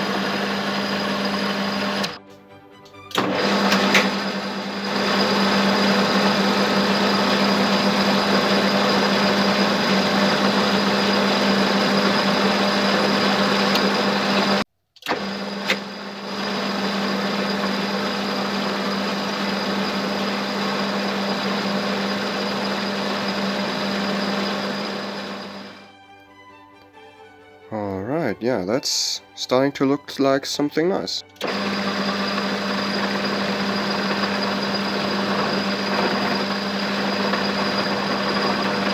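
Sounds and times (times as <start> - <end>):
lathe cutting metal: 0.0 - 2.2, 3.1 - 25.9, 28.6 - 38.9
metal lathe humming: 0.0 - 2.2, 3.1 - 25.9, 28.1 - 38.9.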